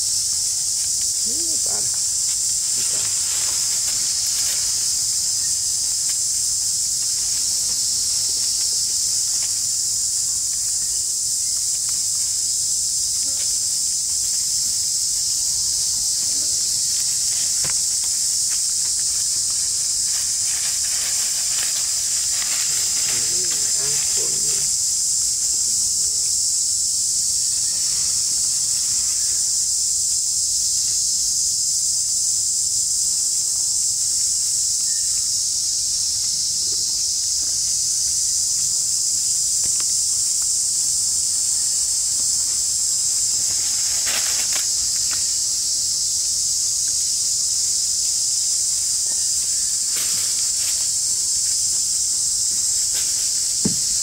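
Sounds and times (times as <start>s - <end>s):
rustles in dry leaves: 0.0s - 30.2s, 36.3s - 54.0s
insects droning: 0.0s - 54.0s.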